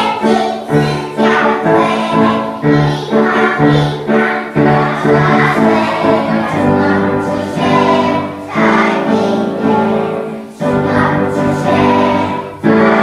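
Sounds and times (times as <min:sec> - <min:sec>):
children's choir singing: 0:00.0 - 0:13.0.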